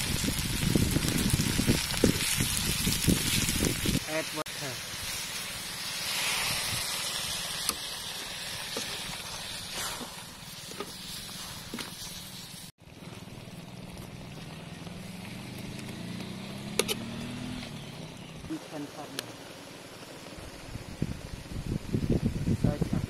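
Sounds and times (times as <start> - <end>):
hot wok sizzling: 0.0 - 23.0.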